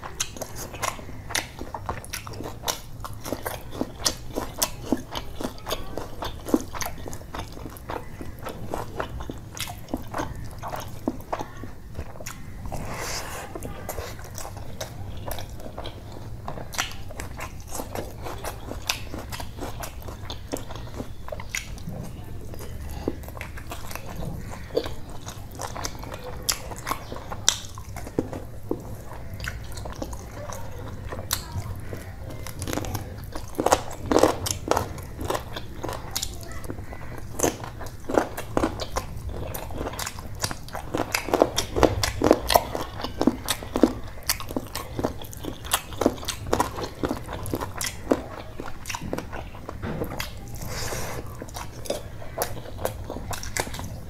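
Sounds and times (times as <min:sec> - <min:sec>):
man chewing with lip smacking: 0:00.0 - 0:54.0.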